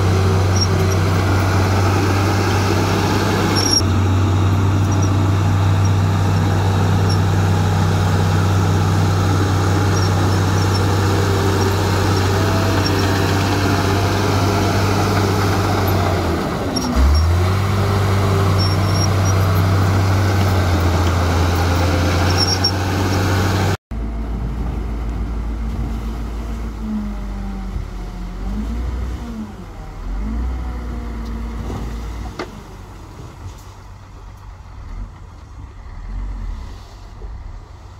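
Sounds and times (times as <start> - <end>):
quieter engine running: 0.0 - 36.0
bulldozer diesel engine running: 0.0 - 37.9.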